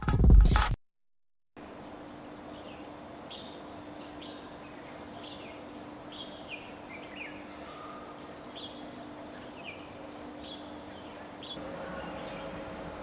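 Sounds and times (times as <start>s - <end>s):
steady low hum: 1.6s - 13.0s
birds chirping: 1.7s - 13.0s.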